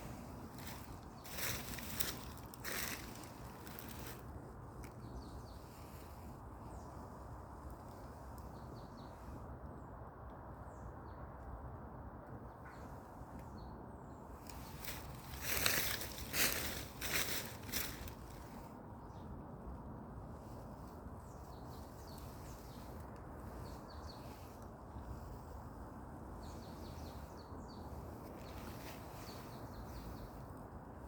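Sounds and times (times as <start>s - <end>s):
low rush of background noise: 0.0s - 31.0s.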